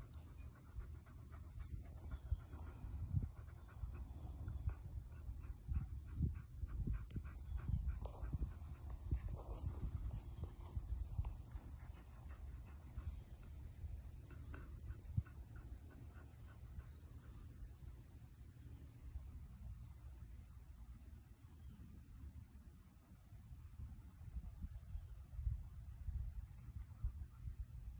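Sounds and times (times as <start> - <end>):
insect chorus trilling: 0.0 - 27.9.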